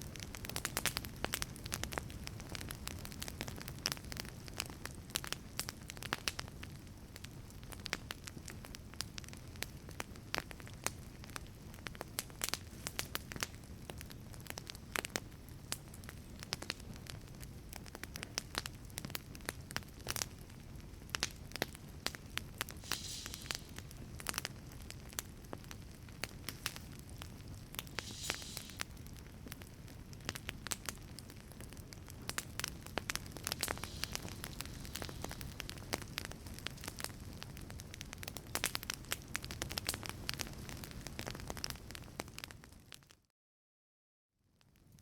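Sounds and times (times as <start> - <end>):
low rumble of flame: 0.0 - 43.0
wood fire crackling and popping: 0.0 - 43.2.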